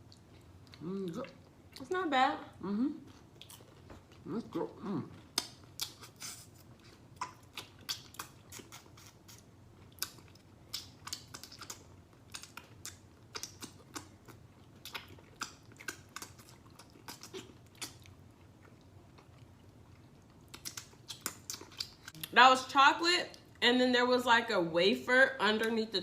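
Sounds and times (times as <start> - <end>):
chewing crisp chocolate: 0.0 - 2.0, 3.0 - 22.4.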